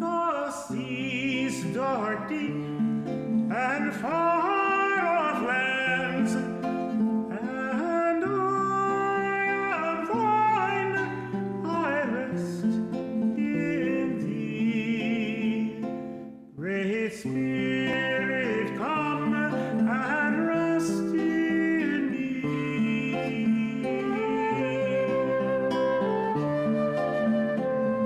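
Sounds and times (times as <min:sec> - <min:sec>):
tenor singing a hymn: 0:00.0 - 0:16.0, 0:16.6 - 0:27.9
acoustic guitar: 0:00.0 - 0:28.0.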